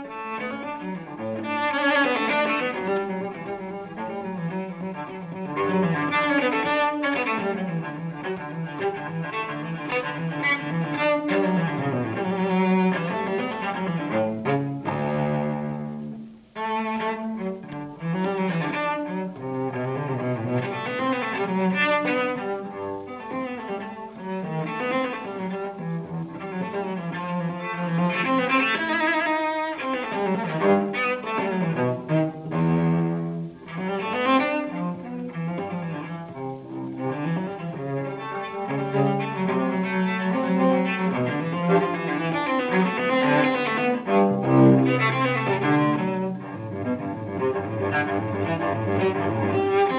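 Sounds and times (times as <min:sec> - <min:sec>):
bowed cello melody: 0:00.0 - 0:49.9.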